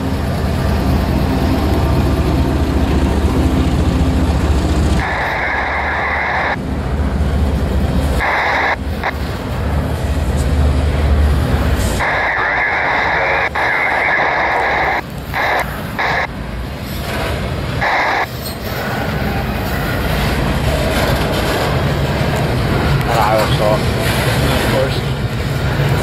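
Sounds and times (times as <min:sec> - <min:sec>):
steel wheels rolling on rail: 0:00.0 - 0:13.4, 0:14.4 - 0:26.0.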